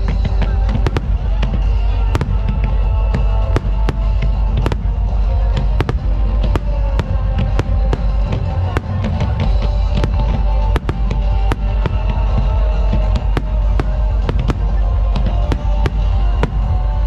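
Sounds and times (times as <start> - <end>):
loud music: 0.0 - 17.0.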